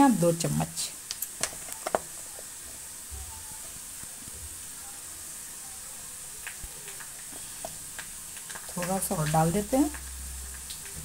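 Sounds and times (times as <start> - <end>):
potatoes sizzling in oil: 0.0 - 11.0.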